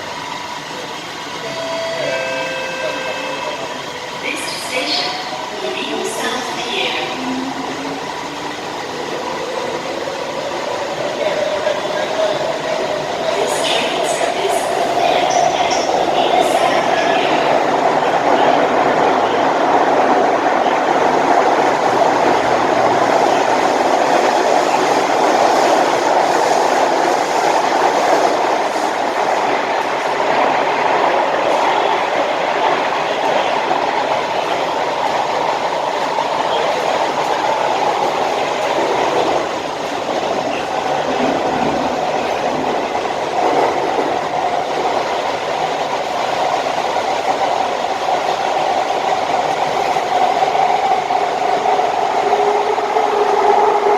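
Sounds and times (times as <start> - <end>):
metro train wheels rolling: 0.0 - 53.9.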